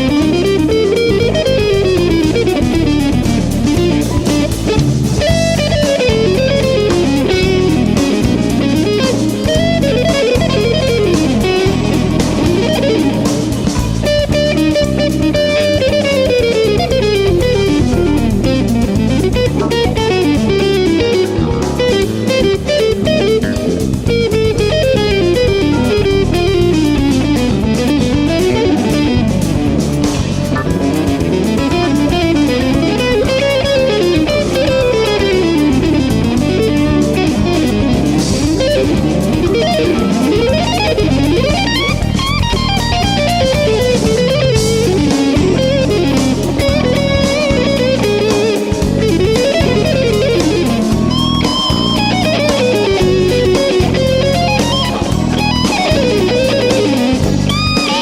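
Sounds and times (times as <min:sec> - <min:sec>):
bass line: 0:00.0 - 0:58.0
drums: 0:00.0 - 0:58.0
electric guitar solo: 0:00.0 - 0:58.0.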